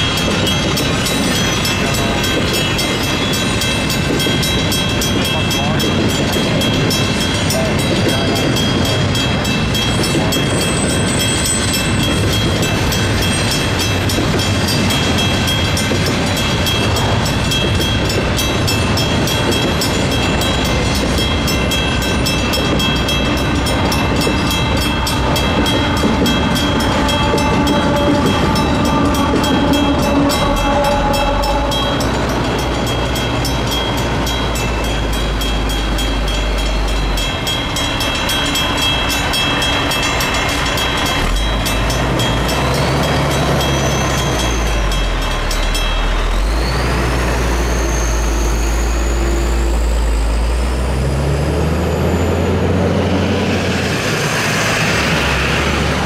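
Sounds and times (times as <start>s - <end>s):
crossing bell ringing rapidly: 0.0s - 56.0s
diesel locomotive engine rumble: 0.0s - 56.0s
freight train rumbling past: 0.0s - 56.0s.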